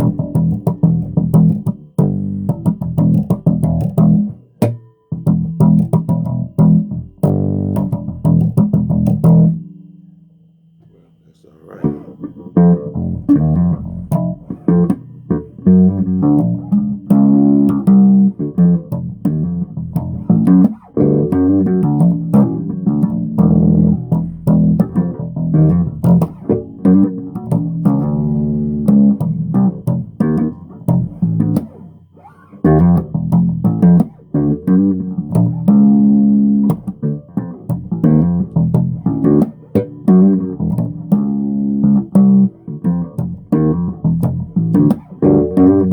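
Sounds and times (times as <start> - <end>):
bass guitar plucked notes: 0.0 - 45.9.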